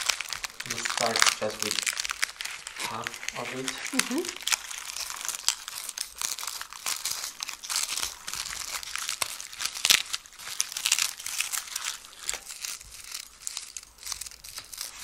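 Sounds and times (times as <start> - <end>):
dry sunflower head crackling: 0.0 - 15.0.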